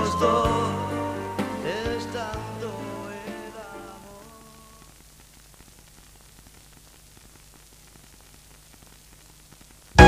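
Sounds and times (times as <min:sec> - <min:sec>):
song on cassette tape: 0:00.0 - 0:10.0
tape hiss: 0:00.0 - 0:10.0.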